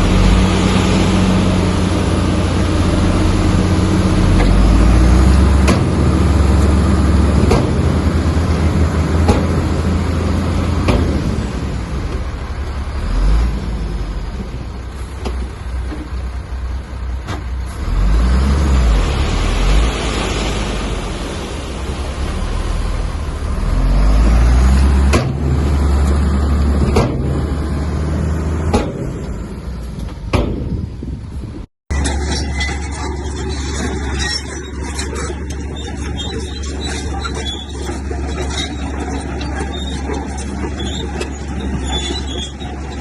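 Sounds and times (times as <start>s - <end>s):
diesel engine rumbling: 0.0s - 43.0s.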